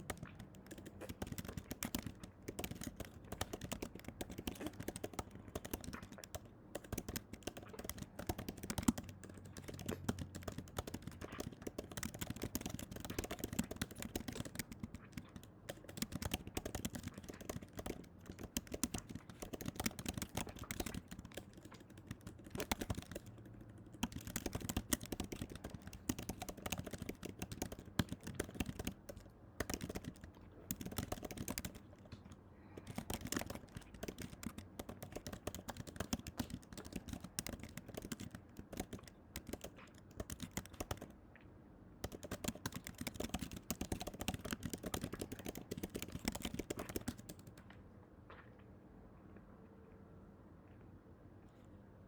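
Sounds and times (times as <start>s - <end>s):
rapid clicking and tapping: 0.0s - 41.2s, 42.0s - 47.8s.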